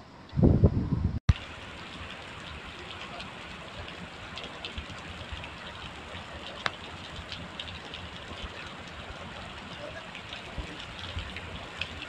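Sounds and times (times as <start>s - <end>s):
heavy rain on asphalt: 1.3s - 12.0s.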